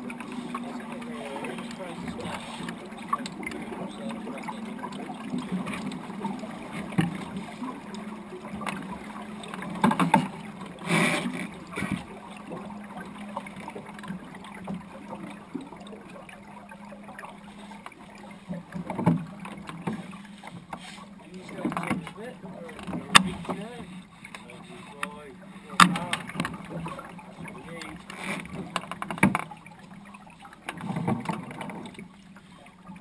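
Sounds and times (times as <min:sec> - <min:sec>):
gear knocking in boat: 0:00.0 - 0:33.0
water along boat hull: 0:00.0 - 0:33.0.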